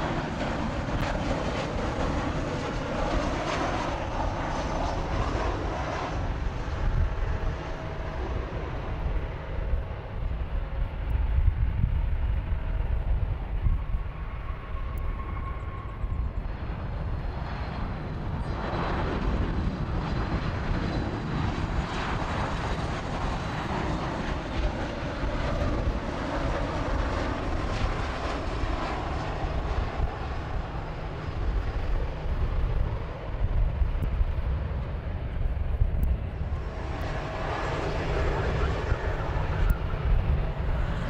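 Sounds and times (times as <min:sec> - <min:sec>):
jet airliner passing: 0:00.0 - 0:41.0
steady low rumble: 0:00.0 - 0:41.0.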